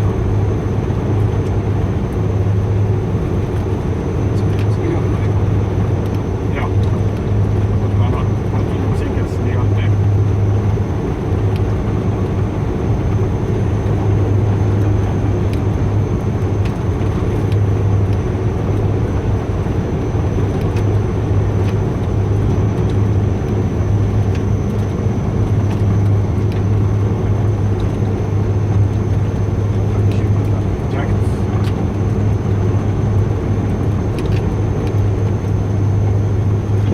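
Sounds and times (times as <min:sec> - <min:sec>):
airflow rumble: 0:00.0 - 0:36.9
turboprop engines droning: 0:00.0 - 0:36.9.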